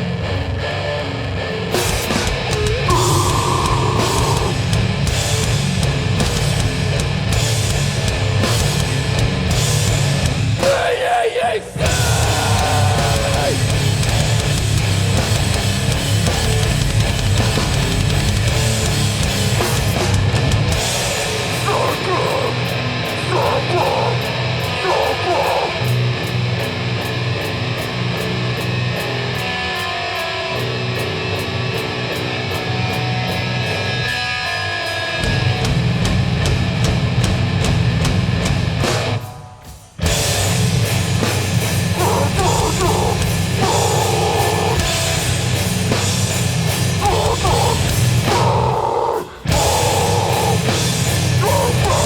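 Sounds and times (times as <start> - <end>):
hardcore band playing loud: 0.0 - 52.0.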